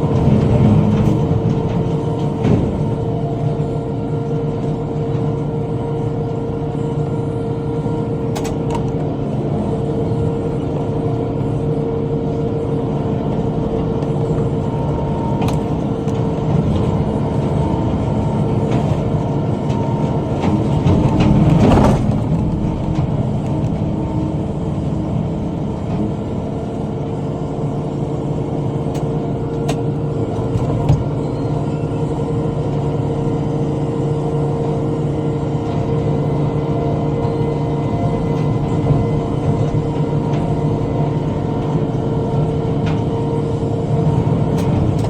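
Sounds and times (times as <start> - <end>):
tractor engine running under load: 0.0 - 45.0.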